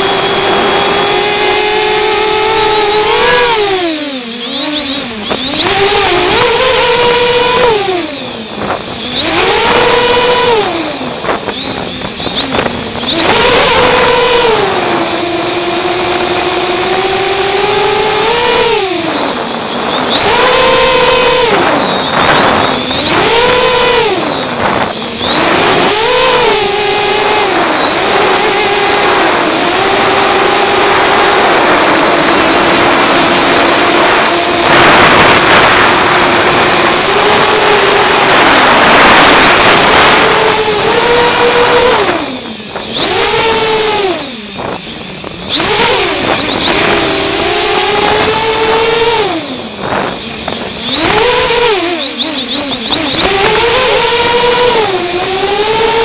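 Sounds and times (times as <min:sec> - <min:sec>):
drone motors and propellers whining: 0:00.0 - 0:56.0.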